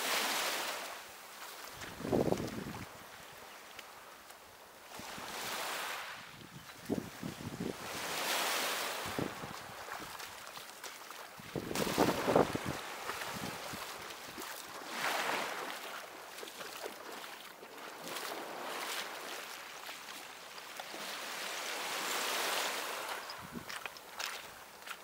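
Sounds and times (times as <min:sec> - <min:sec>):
surf washing onto beach: 0:00.0 - 0:03.1, 0:04.9 - 0:25.0.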